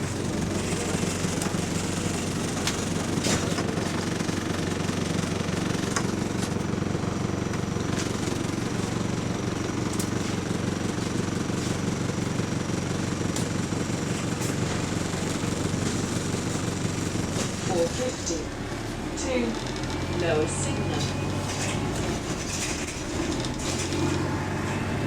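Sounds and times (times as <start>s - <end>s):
bus engine rattling: 0.0s - 25.0s.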